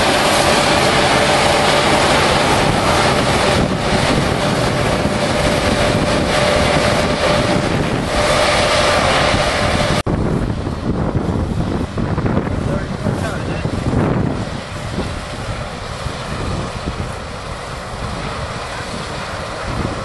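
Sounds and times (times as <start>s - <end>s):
combine harvester drone and whine: 0.0s - 20.0s
wind on microphone: 0.0s - 20.0s.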